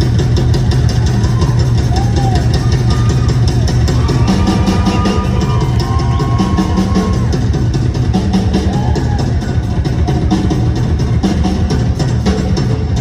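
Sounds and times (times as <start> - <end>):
drum kit: 0.0 - 13.0
electric bass: 0.0 - 13.0.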